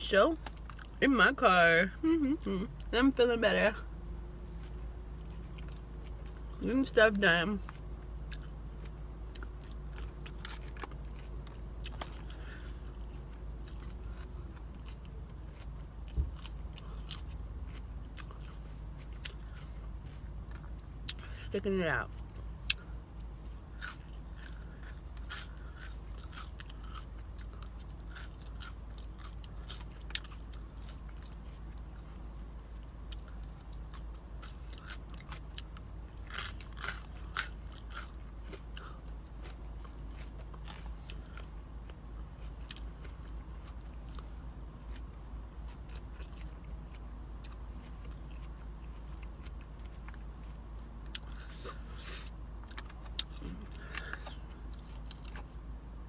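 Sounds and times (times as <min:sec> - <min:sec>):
low steady hum: 0:00.0 - 0:56.0
person chewing salad: 0:00.3 - 0:01.0, 0:03.7 - 0:55.8.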